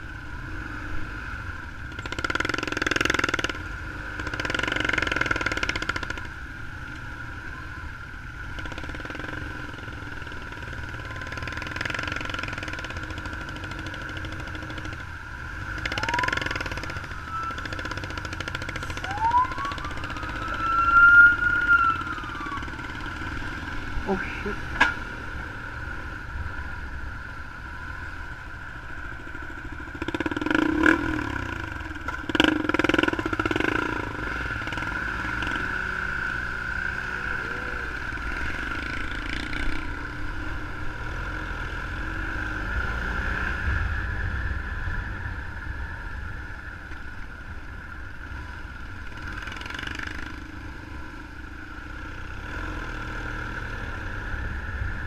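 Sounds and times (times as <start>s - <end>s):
motorcycle engine revving: 0.0s - 26.9s, 28.2s - 46.4s, 47.8s - 55.0s.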